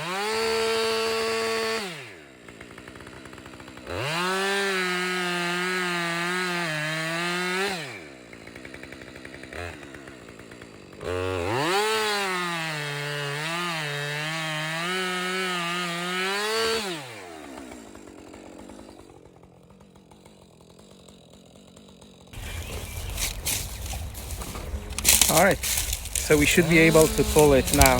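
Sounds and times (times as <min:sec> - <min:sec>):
chainsaw cutting tree trunk: 0:00.0 - 0:27.9.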